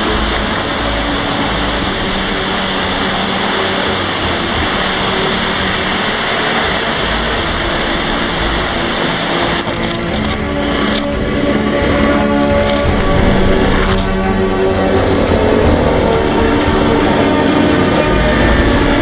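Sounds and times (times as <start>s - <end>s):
music playing: 0.0s - 19.0s
waterfall rushing: 0.0s - 19.0s.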